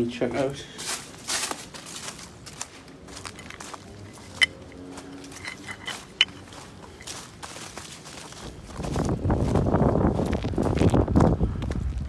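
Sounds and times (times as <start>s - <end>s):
footsteps through leaves: 0.3s - 11.3s.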